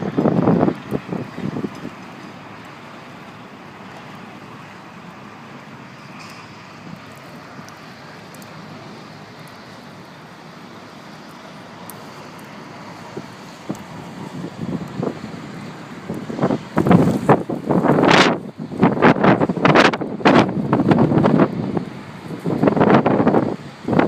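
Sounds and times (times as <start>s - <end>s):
distant traffic: 0.0s - 24.0s
wind: 0.0s - 24.0s.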